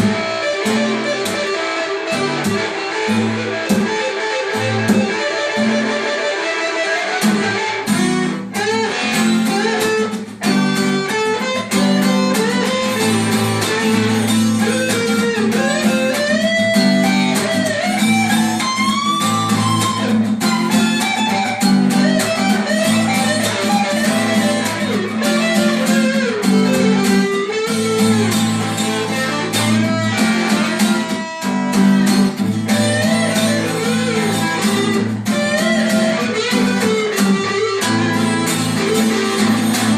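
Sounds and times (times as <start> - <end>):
guitar lead line with bends: 0.0 - 39.9.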